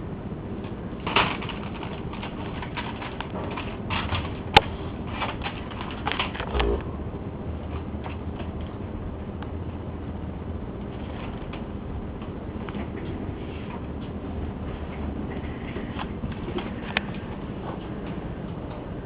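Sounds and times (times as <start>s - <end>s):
kittens scratching and tapping: 0.6s - 6.8s, 7.6s - 8.8s, 10.7s - 18.9s.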